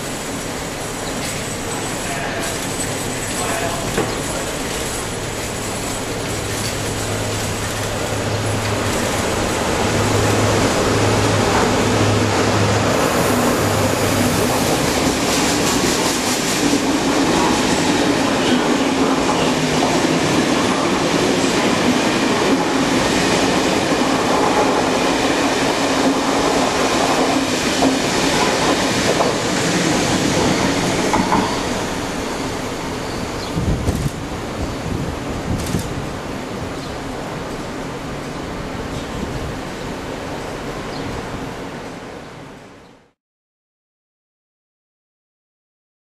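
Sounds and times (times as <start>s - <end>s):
diesel locomotive engine hum: 0.0s - 42.8s
train coaches rolling past: 0.0s - 42.8s.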